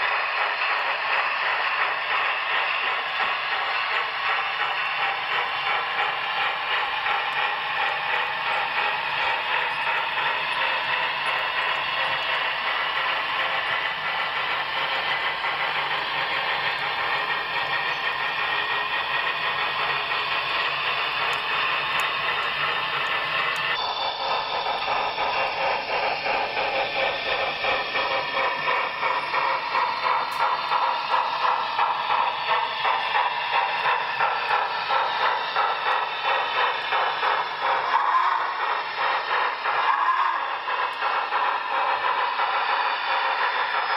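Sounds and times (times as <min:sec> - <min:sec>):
model steam locomotive pulsing: 0:00.0 - 0:43.9
model train wheels rattling: 0:00.0 - 0:43.9.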